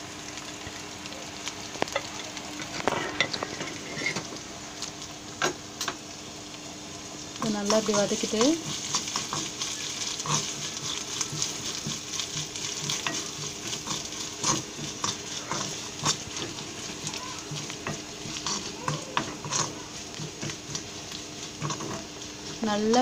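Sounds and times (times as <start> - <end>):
seeds sizzling in hot oil: 0.0 - 23.0.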